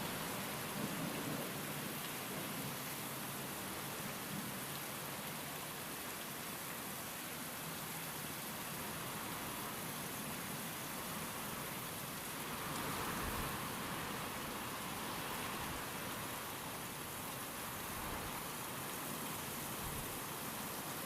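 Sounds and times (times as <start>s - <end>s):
steady rain with wind: 0.0s - 21.0s.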